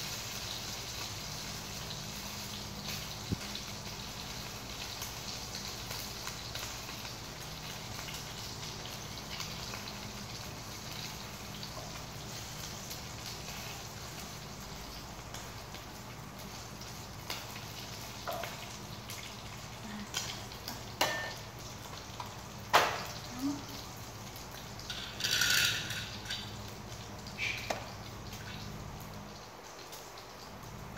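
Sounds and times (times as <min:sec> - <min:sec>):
food sizzling in hot oil: 0:00.0 - 0:30.9.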